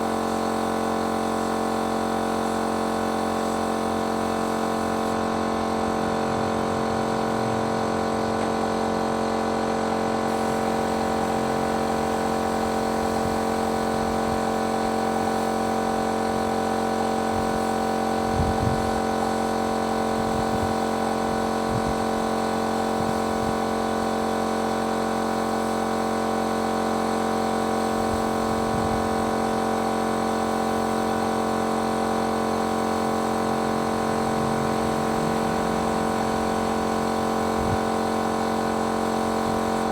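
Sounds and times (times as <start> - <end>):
paint sprayer motor humming: 0.0 - 6.4, 10.0 - 23.6, 25.2 - 39.9.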